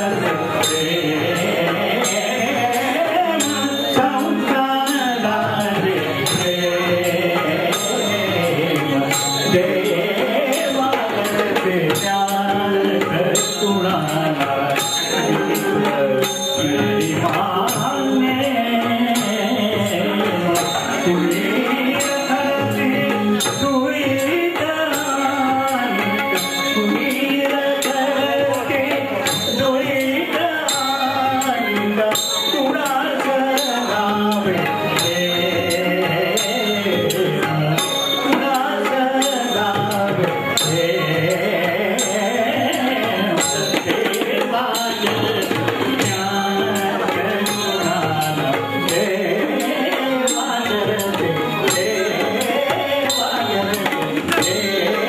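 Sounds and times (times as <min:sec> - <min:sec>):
man singing into microphone: 0:00.0 - 0:55.0.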